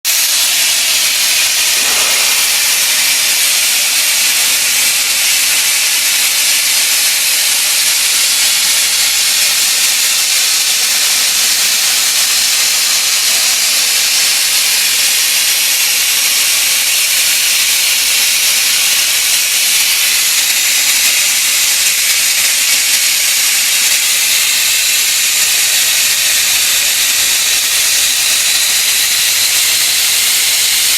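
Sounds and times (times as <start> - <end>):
steam hissing from boiler: 0.1 - 30.9.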